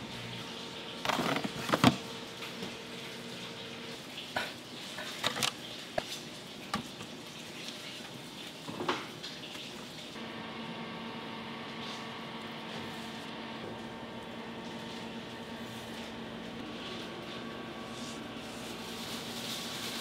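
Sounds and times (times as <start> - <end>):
kitchen equipment hum: 0.0 - 20.0.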